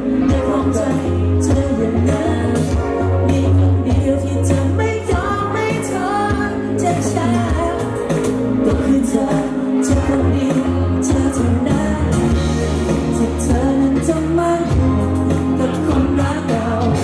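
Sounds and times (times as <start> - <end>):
live pop band playing: 0.0 - 17.0
person singing: 0.0 - 17.0.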